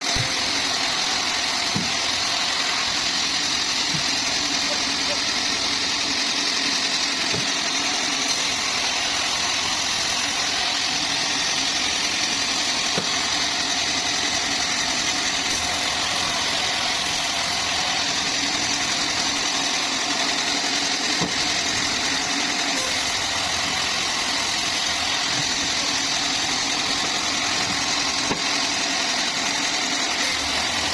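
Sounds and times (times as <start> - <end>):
sawmill machinery running: 0.0 - 30.9.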